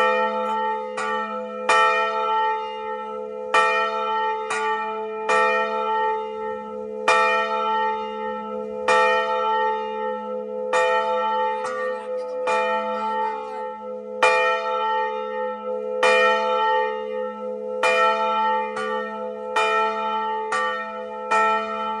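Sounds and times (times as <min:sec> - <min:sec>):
church bell ringing: 0:00.0 - 0:22.0.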